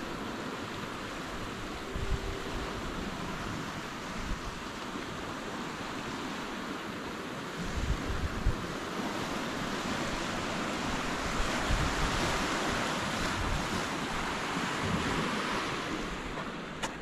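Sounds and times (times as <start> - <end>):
wind buffeting microphone: 0.0 - 6.8, 7.4 - 17.0
ocean surf washing ashore: 0.0 - 17.0.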